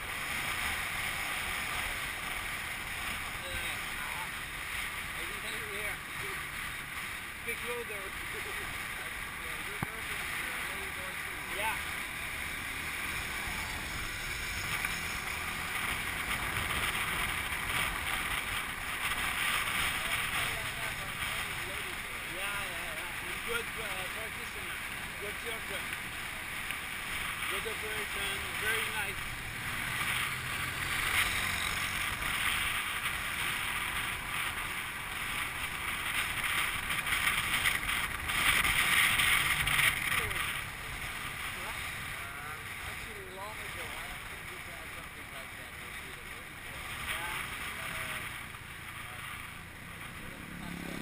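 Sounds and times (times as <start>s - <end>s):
motorcycle road noise: 0.0s - 51.0s.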